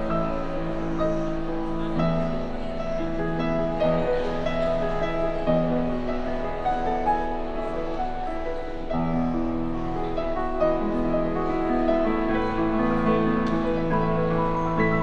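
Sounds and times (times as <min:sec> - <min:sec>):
deep piano bass notes: 0:00.0 - 0:15.0
grand piano melody: 0:00.0 - 0:15.0.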